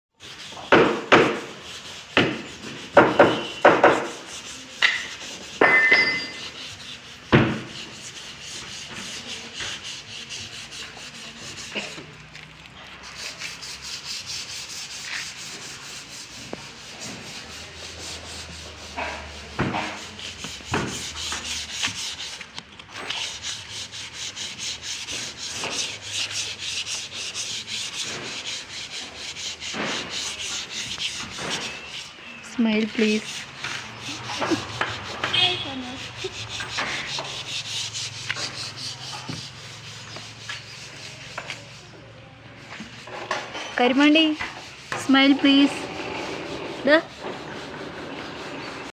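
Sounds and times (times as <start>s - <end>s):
sanding on wood: 0.2s - 48.9s.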